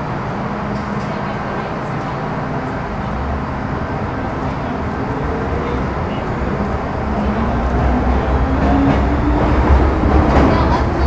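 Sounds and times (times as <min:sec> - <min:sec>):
train running in tunnel: 0:00.0 - 0:11.0.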